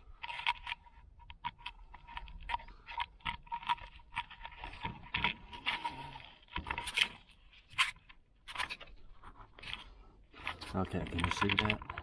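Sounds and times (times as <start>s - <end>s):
handling scrapes and clicks: 0.0s - 12.0s.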